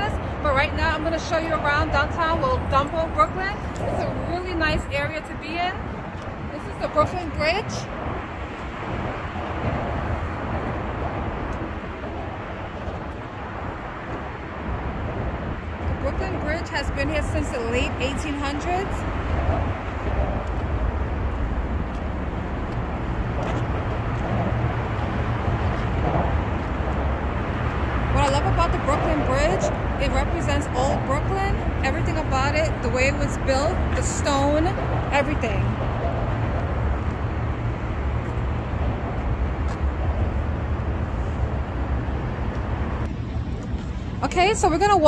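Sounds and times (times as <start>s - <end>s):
city traffic roar: 0.0s - 45.0s
wind buffeting microphone: 0.0s - 45.0s.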